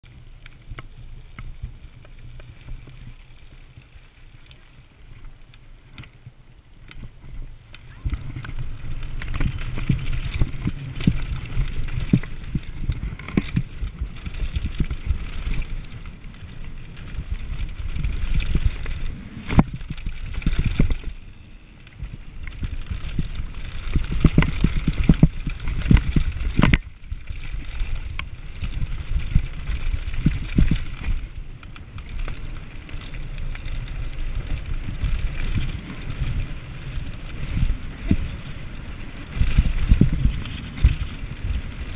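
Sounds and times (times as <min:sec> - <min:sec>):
bike tyres rolling over dirt: 0:00.0 - 0:41.9
bike knocks and rattles: 0:04.5 - 0:41.9.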